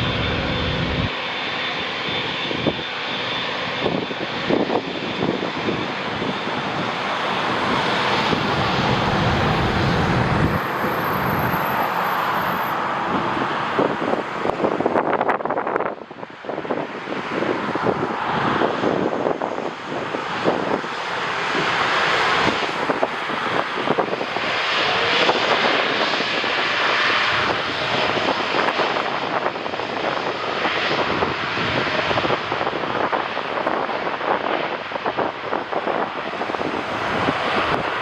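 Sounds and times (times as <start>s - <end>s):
wind buffeting microphone: 0.0s - 1.2s, 3.6s - 38.0s
jet engines passing close: 0.0s - 38.0s.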